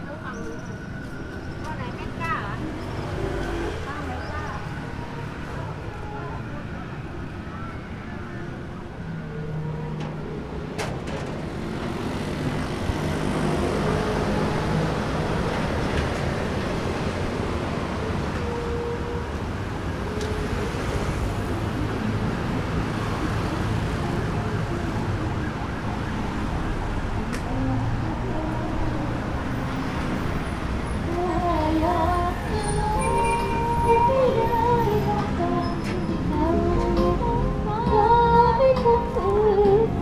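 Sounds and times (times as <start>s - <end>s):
passing cars and motorbikes: 0.0s - 40.0s.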